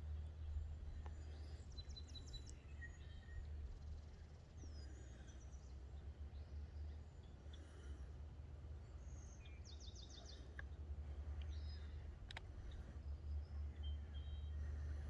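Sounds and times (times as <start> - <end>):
small birds chirping: 0.0 - 8.0, 8.8 - 15.0.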